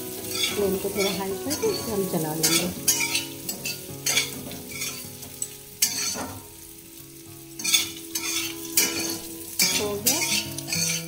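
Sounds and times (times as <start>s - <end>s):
food sizzling in oil: 0.0s - 11.0s
metal spatula scraping pan: 0.1s - 6.5s, 7.6s - 11.0s.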